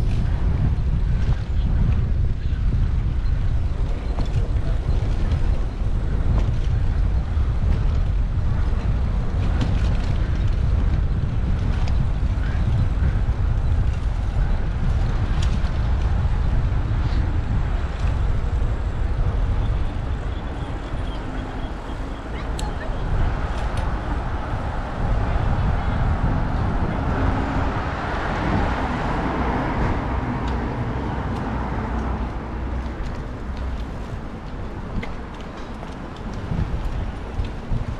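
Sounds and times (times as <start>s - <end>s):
road noise: 0.0s - 37.9s
wind on camera microphone: 0.0s - 37.9s.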